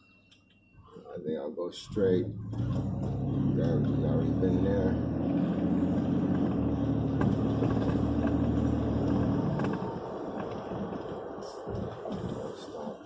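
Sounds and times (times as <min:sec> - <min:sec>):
truck engine running: 0:01.8 - 0:13.0.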